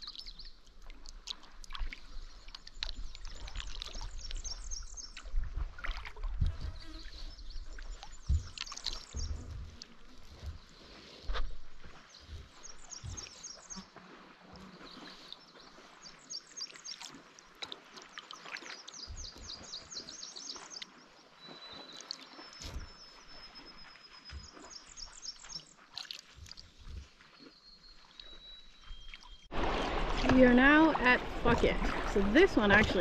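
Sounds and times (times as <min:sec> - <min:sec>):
songbirds chirping: 0:00.0 - 0:01.0, 0:01.9 - 0:05.3, 0:06.7 - 0:25.8, 0:26.5 - 0:33.0
paddle strokes in water: 0:00.0 - 0:33.0.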